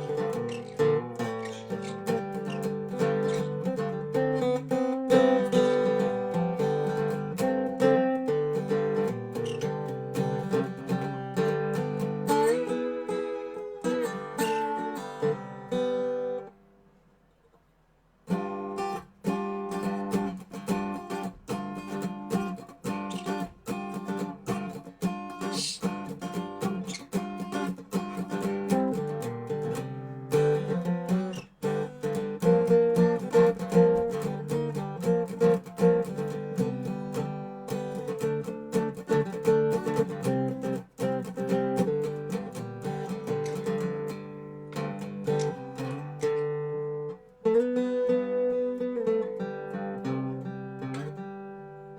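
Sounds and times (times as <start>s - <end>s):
resonator guitar playing blues: 0.0s - 16.7s, 18.2s - 51.9s.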